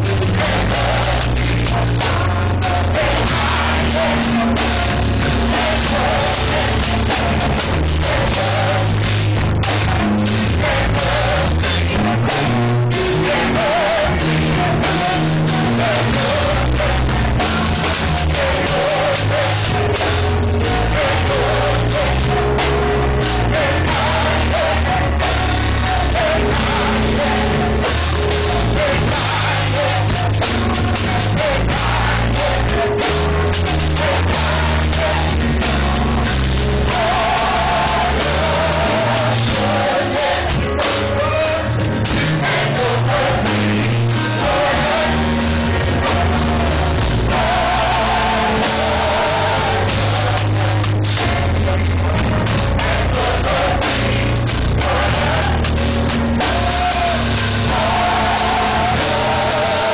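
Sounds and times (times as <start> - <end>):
bass line: 0.0 - 59.9
drums: 0.0 - 59.9
gospel choir singing: 0.0 - 59.9.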